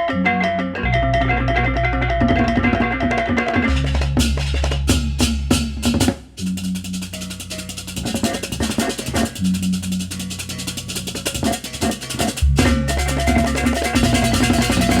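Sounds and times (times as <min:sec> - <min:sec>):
gamelan percussion music: 0:00.0 - 0:15.0.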